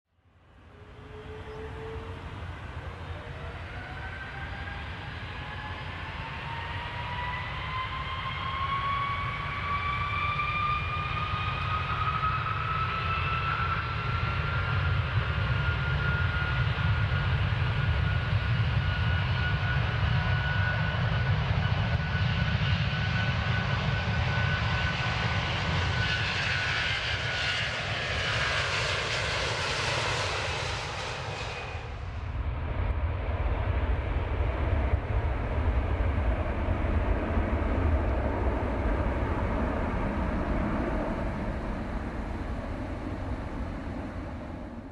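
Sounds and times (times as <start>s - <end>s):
jet engine whine: 0.2s - 44.9s.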